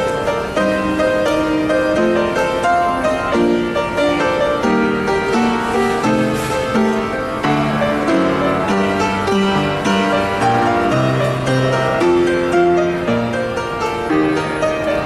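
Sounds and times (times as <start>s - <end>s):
classical piano music: 0.0s - 15.0s.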